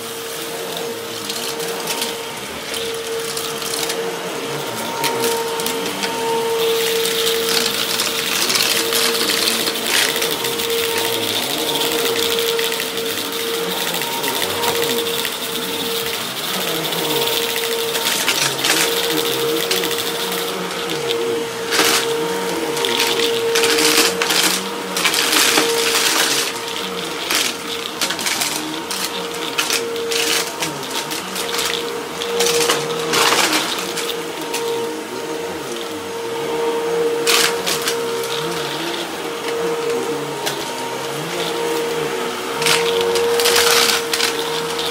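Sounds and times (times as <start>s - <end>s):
debris crackling in vacuum: 0.0s - 44.9s
vacuum cleaner motor whine: 0.0s - 44.9s.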